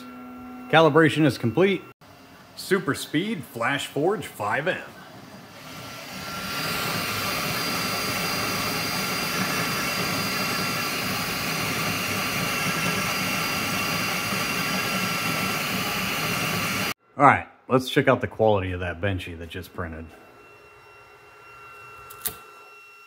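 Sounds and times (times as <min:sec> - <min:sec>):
whining tones: 0:00.0 - 0:01.9, 0:02.5 - 0:17.0, 0:19.4 - 0:23.0.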